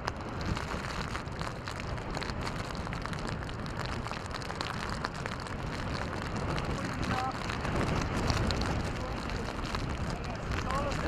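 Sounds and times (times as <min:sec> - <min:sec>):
heavy rain falling: 0:00.0 - 0:11.0
low rumble: 0:00.0 - 0:11.0.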